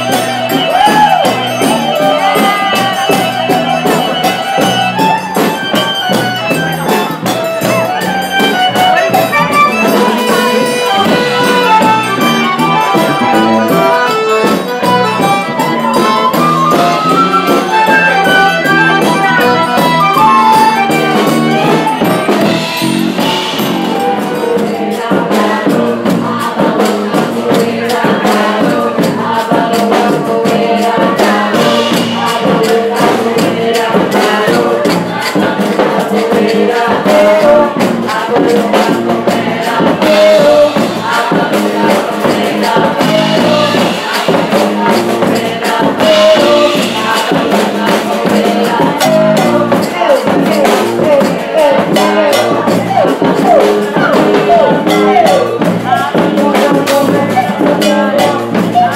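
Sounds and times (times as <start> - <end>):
accordion melody: 0.0 - 58.9
bass: 0.0 - 58.9
drums: 0.0 - 58.9
group singing: 0.0 - 58.9
shaken wooden hand percussion: 0.0 - 58.9.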